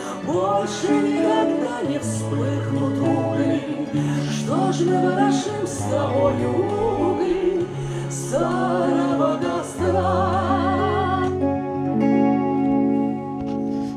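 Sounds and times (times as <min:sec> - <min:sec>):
voices singing long notes: 0:00.0 - 0:12.2
sustained chords: 0:00.0 - 0:13.9.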